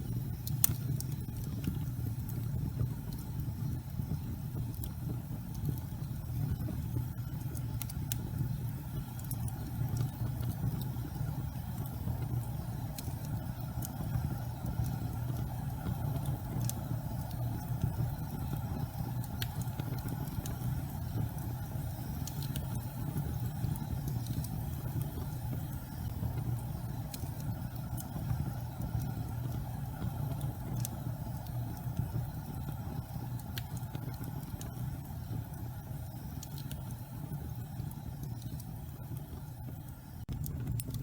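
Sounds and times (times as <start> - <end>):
fire burning with low rumble: 0.0 - 41.0
fire crackles: 0.0 - 41.0.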